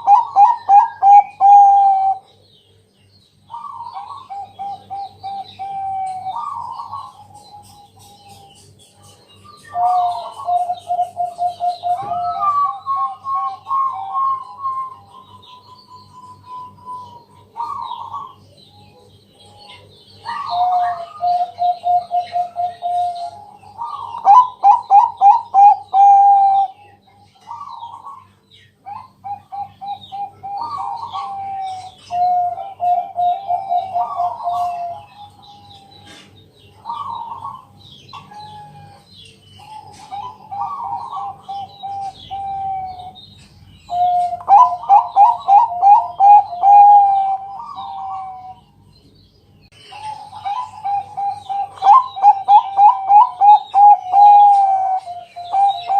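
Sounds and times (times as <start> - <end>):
dove cooing: 0.0 - 2.3, 3.5 - 8.5, 9.7 - 43.3, 43.9 - 48.6, 49.9 - 55.9.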